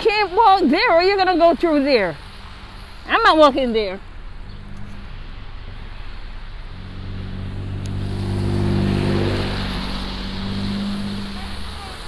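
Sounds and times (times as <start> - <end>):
vehicle driving past: 2.2 - 12.0.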